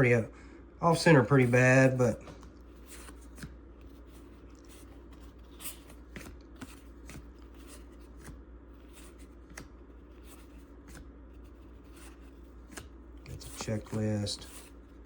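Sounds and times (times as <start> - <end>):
low steady hum: 0.0 - 15.0
cards clicking and rustling: 2.2 - 15.0.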